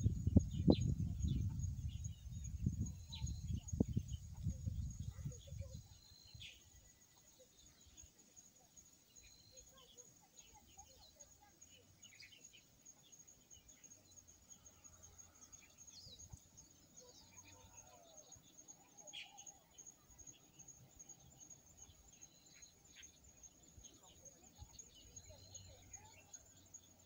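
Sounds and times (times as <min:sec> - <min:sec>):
bird chirps and calls: 0:00.0 - 0:27.0.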